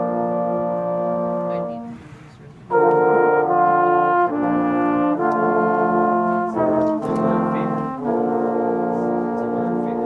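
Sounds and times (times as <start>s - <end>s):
trombones playing chords: 0.0s - 10.0s.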